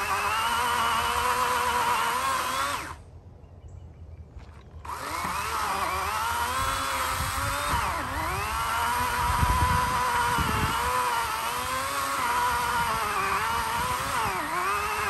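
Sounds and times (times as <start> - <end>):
electric chainsaw cutting log: 0.0 - 3.0, 4.8 - 15.0.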